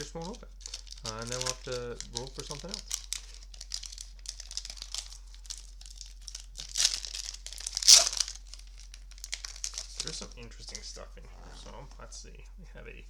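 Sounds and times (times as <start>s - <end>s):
foil pack ripping: 0.0s - 11.9s
foil wrapper crinkling: 0.0s - 12.4s.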